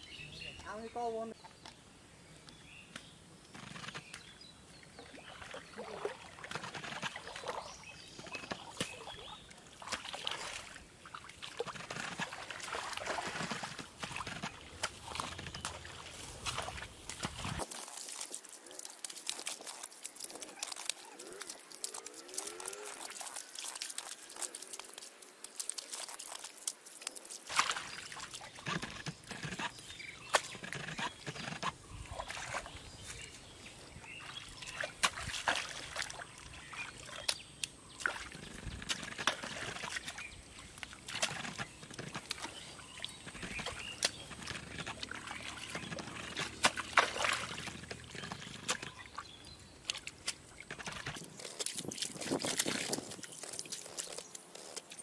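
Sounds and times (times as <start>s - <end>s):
hands splashing in muddy water: 5.2s - 28.9s, 34.2s - 55.0s.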